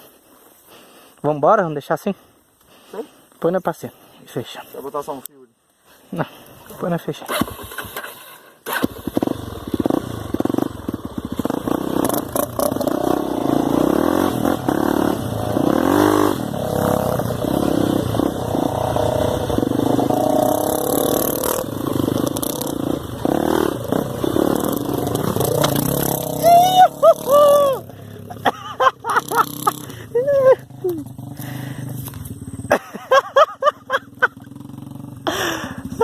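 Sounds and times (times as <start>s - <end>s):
motorcycle engine revving: 7.2s - 36.0s.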